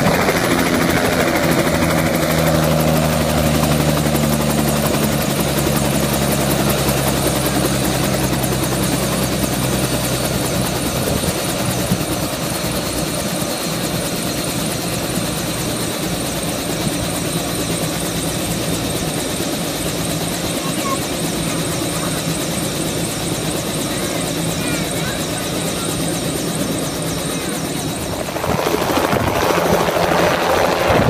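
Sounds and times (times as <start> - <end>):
helicopter rotor and engine whine: 0.0 - 31.0.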